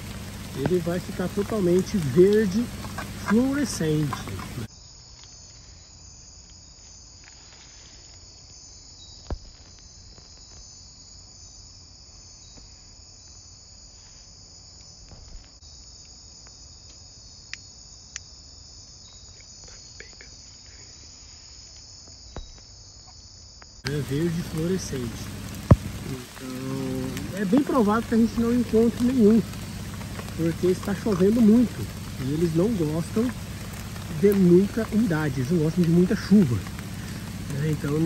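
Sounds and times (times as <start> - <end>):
night insects chorus: 0.0 - 38.0.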